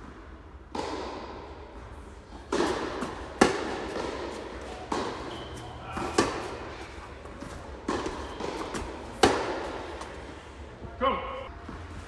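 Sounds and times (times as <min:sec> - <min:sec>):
tennis racquet hitting ball: 0:00.7 - 0:10.6.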